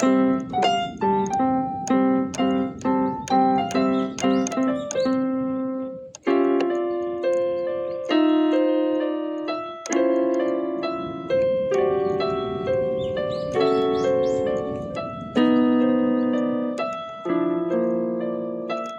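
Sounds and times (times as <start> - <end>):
synthesizer piano chords: 0.0 - 18.9.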